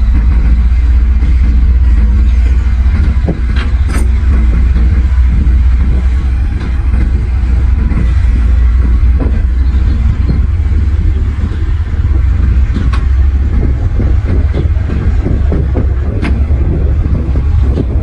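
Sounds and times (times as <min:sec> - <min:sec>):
diesel machinery engine rumble: 0:00.0 - 0:18.0.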